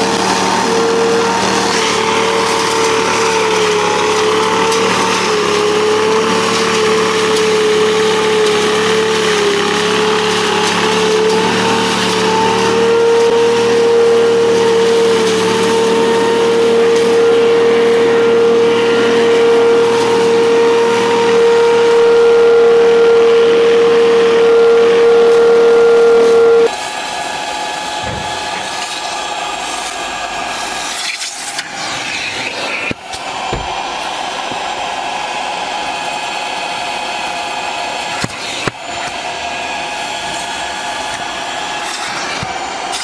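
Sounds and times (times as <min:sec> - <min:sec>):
leaf vacuum fan whine: 0:00.0 - 0:43.0.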